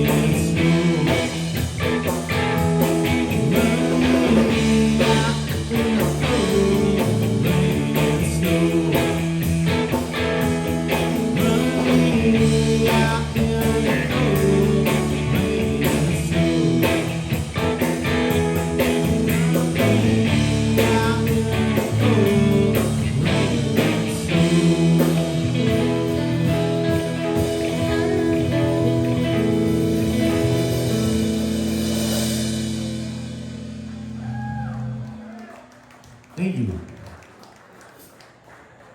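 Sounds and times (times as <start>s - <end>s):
live blues-rock band: 0.0s - 35.3s
electric guitar: 0.0s - 36.0s.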